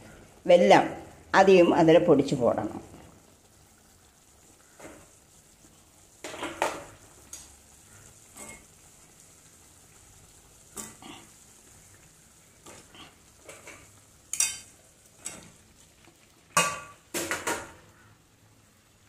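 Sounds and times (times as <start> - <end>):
faint sizzle: 0.0 - 19.0.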